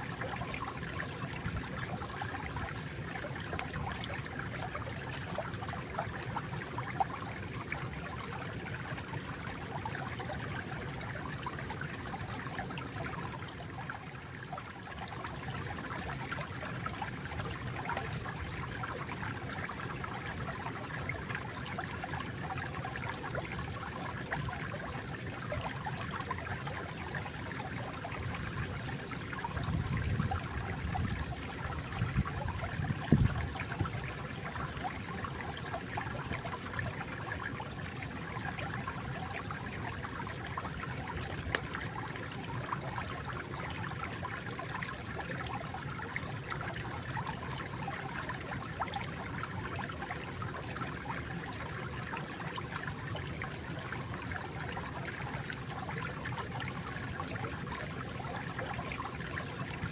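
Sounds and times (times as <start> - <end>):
water trickling over stones: 0.0 - 59.9.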